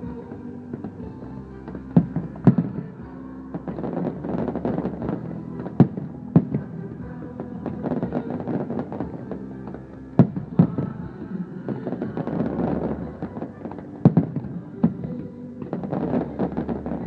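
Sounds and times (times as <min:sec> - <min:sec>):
fireworks bangs: 0:00.0 - 0:17.0
fireworks crackling: 0:00.0 - 0:17.0
music: 0:00.0 - 0:17.0.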